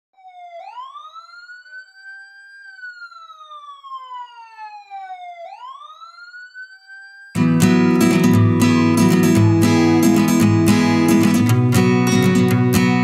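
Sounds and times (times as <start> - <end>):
police siren wailing: 0.2 - 13.0.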